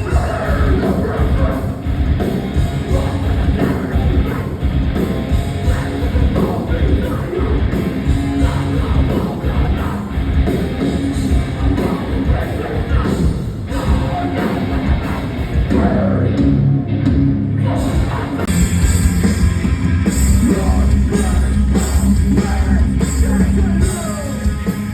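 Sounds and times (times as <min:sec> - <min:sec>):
heavy band playing live: 0:00.0 - 0:24.9.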